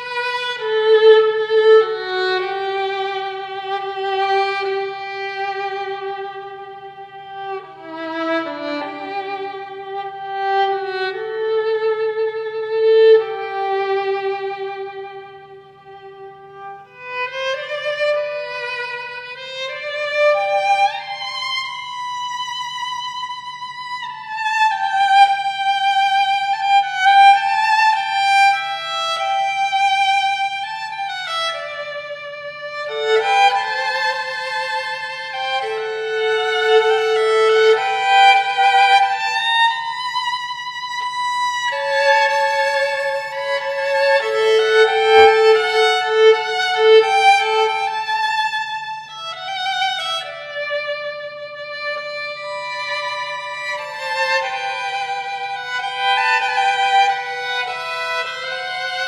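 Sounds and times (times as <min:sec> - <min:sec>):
solo violin slow melody: 0:00.0 - 0:59.0.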